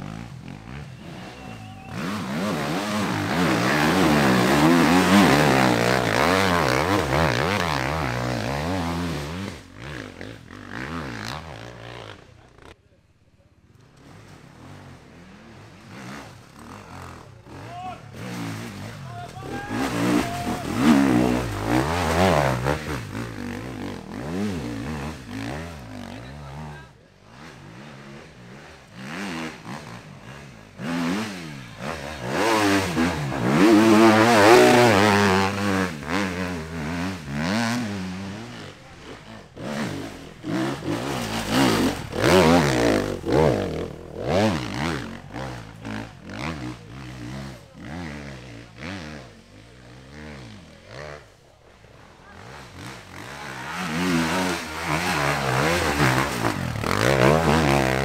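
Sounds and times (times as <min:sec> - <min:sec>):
dirt bike engine revving: 0:00.0 - 0:12.8, 0:13.8 - 0:58.0.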